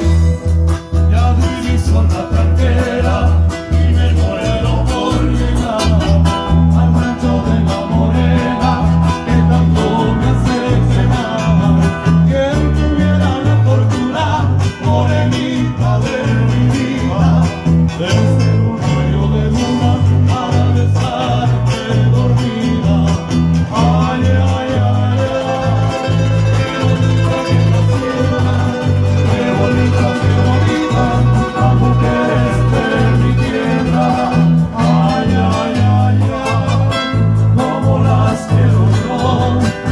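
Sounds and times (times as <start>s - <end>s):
acoustic guitar picked and strummed: 0.0s - 39.9s
keyboard with repeating bass line: 0.0s - 39.9s.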